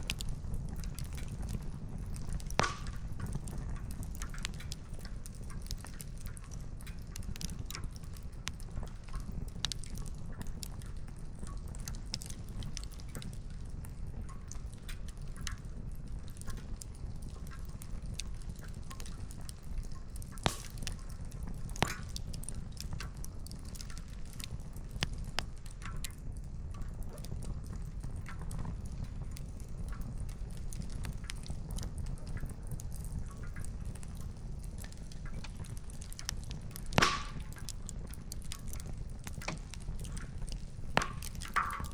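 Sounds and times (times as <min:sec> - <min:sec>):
campfire crackling: 0:00.0 - 0:41.9
firewood popping: 0:00.0 - 0:41.9.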